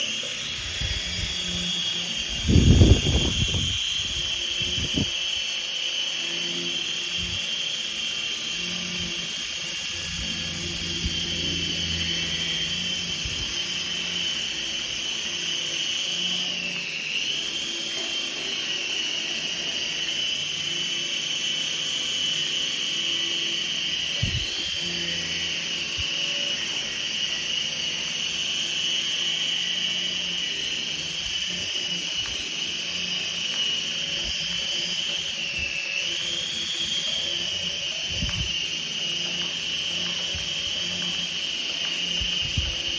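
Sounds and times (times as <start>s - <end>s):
toy helicopter motor whining: 0.0s - 42.9s.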